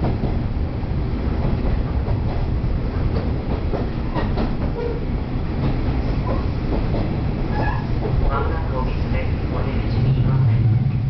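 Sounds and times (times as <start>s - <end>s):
diesel railcar drone: 0.0s - 11.0s
wheels clacking over rail joints: 1.4s - 10.4s.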